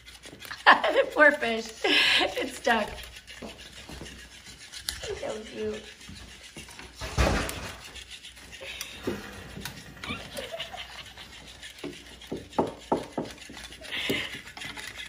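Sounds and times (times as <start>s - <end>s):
toy fish slapping floor: 0.0s - 15.0s.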